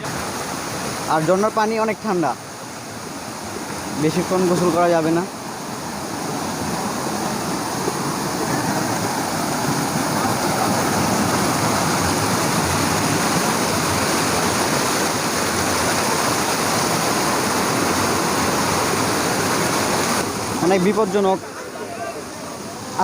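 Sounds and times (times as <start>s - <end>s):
water rushing down a waterfall: 0.0s - 23.0s.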